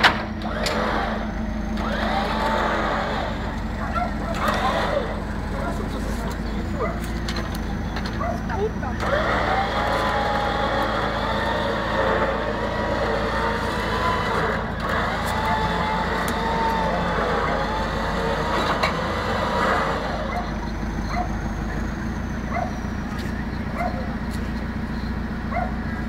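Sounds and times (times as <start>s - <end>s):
winch whining: 0.0s - 25.7s
engine hum: 0.0s - 26.0s.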